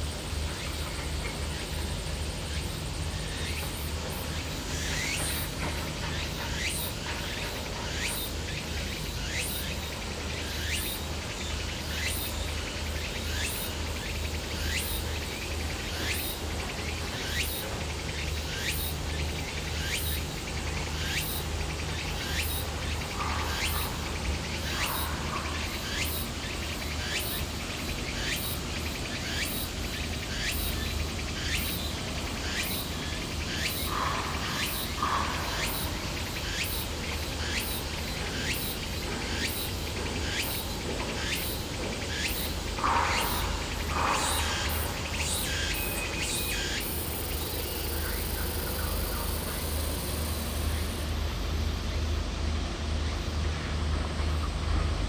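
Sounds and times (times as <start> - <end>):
insects chirping: 0.0 - 53.8
constant low rumble: 0.0 - 55.0.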